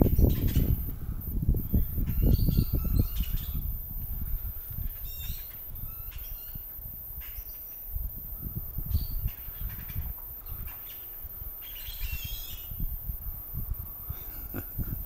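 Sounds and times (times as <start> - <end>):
birds squawking and chirping: 0.0 - 12.8
wind buffeting microphone: 0.0 - 15.0.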